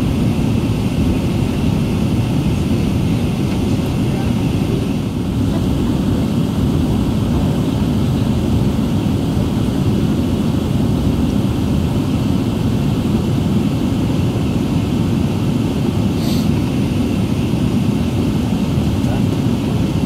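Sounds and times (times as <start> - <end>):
aircraft cabin rumble while taxiing: 0.0 - 20.0.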